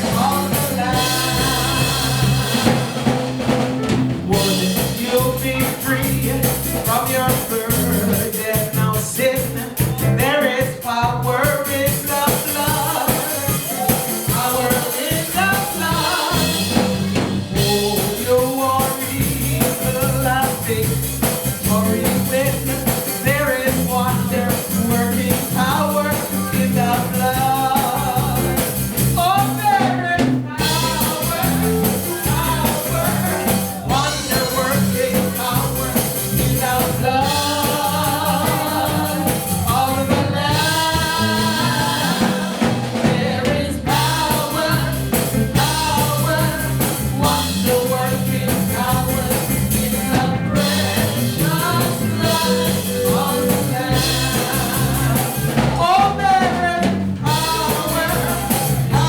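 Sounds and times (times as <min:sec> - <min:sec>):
band playing gospel music: 0:00.0 - 0:59.0
voices singing: 0:00.0 - 0:59.0.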